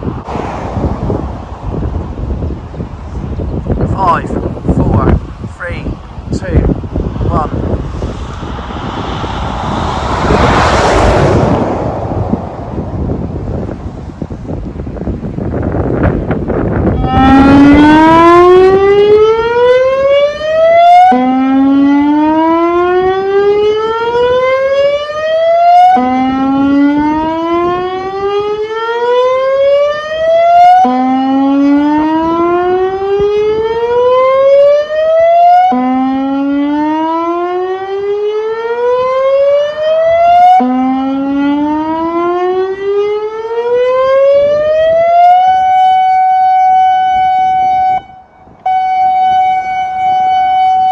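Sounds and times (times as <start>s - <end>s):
warning siren rising tone: 3.9s - 14.6s, 16.5s - 50.9s.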